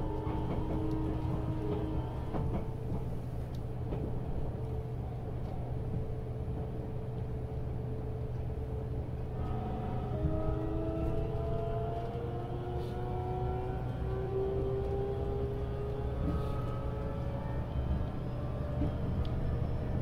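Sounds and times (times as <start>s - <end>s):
electric train rumble and hum: 0.0s - 20.0s.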